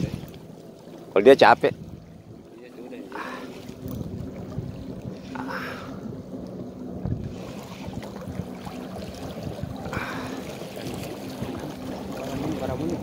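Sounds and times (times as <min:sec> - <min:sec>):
wind buffeting microphone: 0:00.0 - 0:00.5, 0:01.2 - 0:13.0
water noise: 0:00.0 - 0:13.0.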